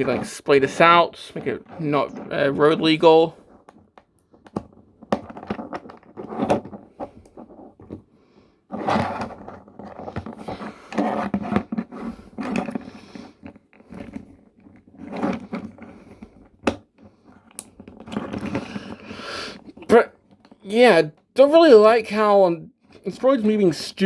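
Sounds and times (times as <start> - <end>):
plastic parts rubbing and scraping: 0.0 - 24.0.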